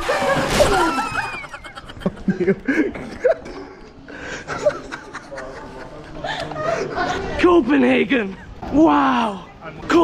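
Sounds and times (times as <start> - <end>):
people laughing and chattering: 0.0 - 10.0.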